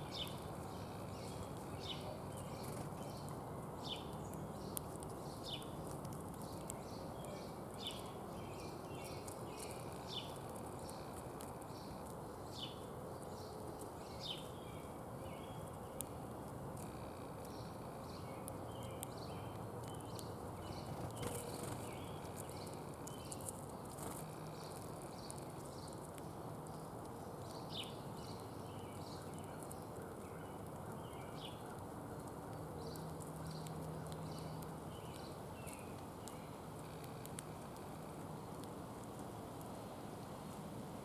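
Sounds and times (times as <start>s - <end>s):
small songbirds chirping: 0.0s - 41.0s.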